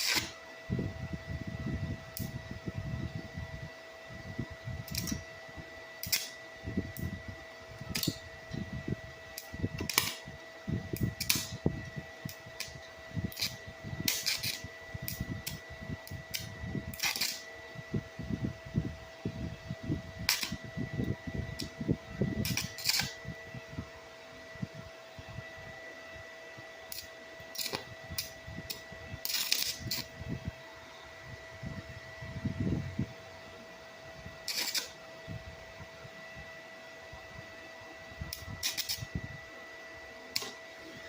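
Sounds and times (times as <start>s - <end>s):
high-pitched hum: 0.0s - 41.0s.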